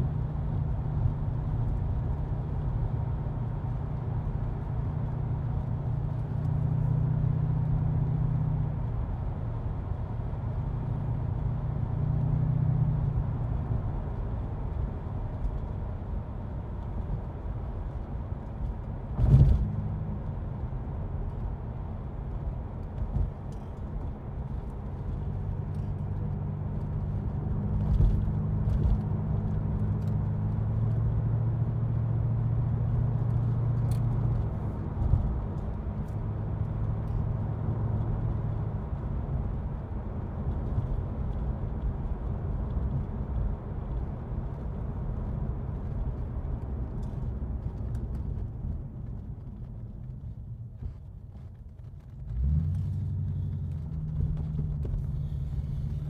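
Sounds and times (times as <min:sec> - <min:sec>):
car engine droning: 0:00.0 - 0:56.0.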